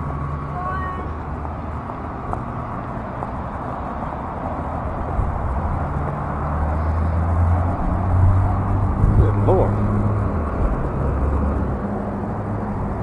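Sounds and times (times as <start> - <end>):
car engine humming: 0.0 - 13.0
wind and road noise: 0.0 - 13.0.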